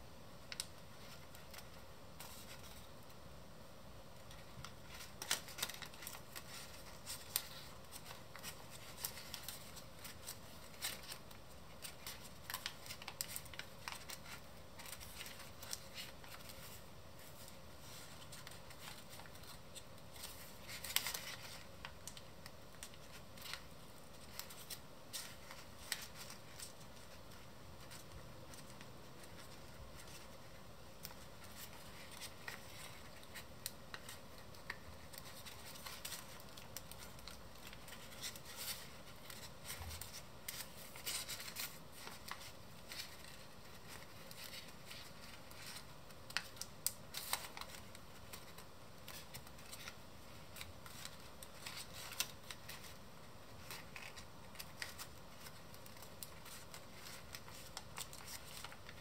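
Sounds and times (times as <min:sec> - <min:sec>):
paper crackling as folded: 0:00.4 - 0:03.2, 0:04.1 - 0:59.0
paper rustle: 0:00.4 - 0:03.2, 0:04.2 - 0:59.0.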